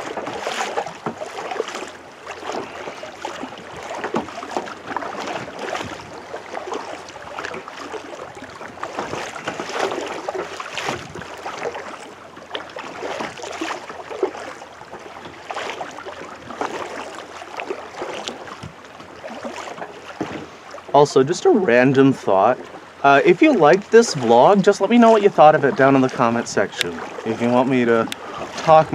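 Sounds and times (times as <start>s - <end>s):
paddle splashing in water: 0.0s - 28.9s.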